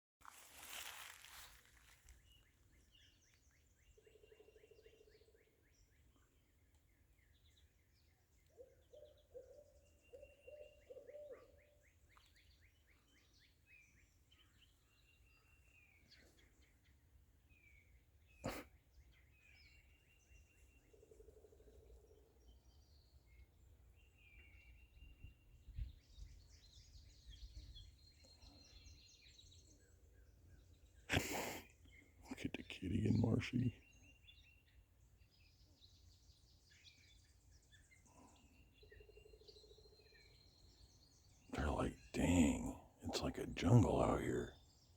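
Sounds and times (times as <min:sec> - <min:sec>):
small birds chirping: 0:00.2 - 0:44.9.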